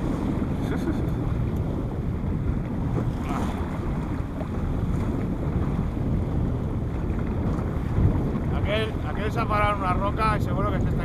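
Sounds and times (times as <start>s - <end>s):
motorboat rumbling through choppy water: 0.0s - 11.0s
wind buffeting microphone: 0.0s - 11.0s.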